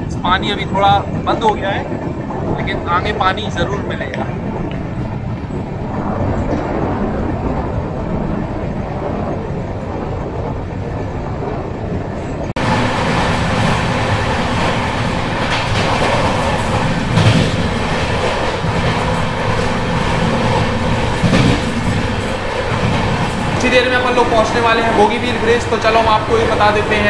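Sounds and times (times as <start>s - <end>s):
train rumbling at speed: 0.0s - 27.0s
wheels clattering over rails: 0.0s - 27.0s.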